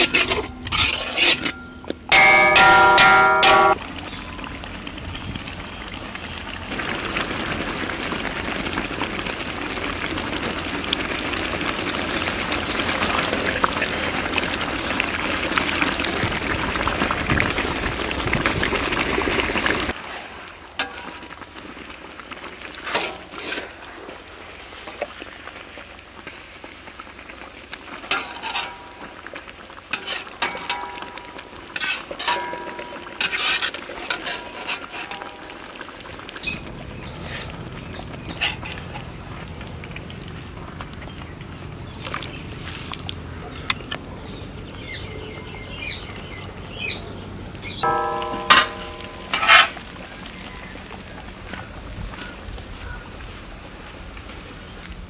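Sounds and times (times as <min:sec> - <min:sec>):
chicken sizzling with crackles: 0:02.1 - 0:55.0.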